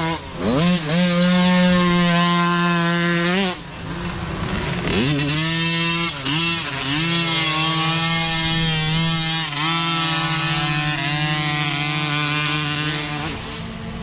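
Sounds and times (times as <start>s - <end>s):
two-stroke dirt bike engine revving: 0.0s - 14.0s.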